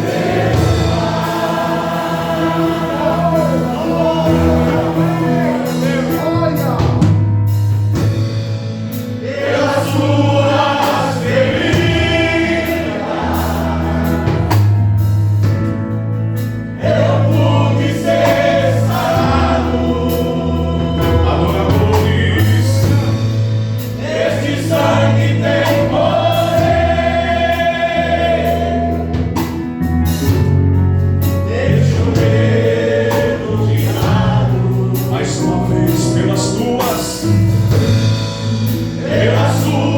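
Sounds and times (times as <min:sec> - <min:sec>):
male vocal group singing gospel: 0:00.0 - 0:07.3, 0:08.9 - 0:15.2, 0:16.4 - 0:39.9
steady bass accompaniment: 0:00.0 - 0:39.9.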